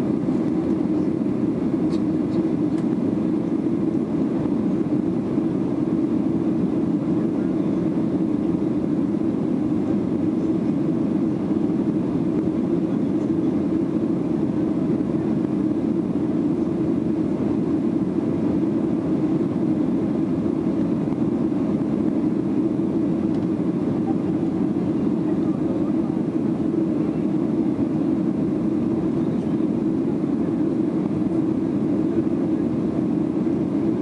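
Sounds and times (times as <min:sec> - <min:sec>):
airliner engine and airflow noise: 0:00.0 - 0:34.0.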